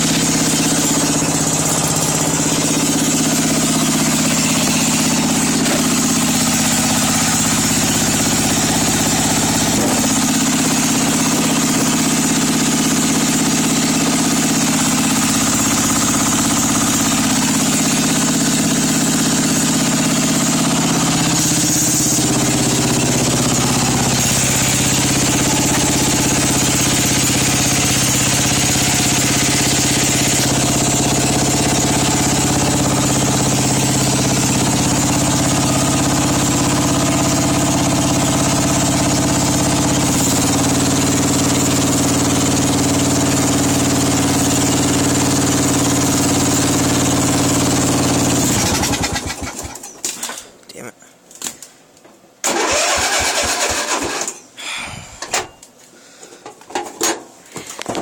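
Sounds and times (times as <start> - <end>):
small gasoline engine idling: 0.0 - 49.9, 52.4 - 54.3.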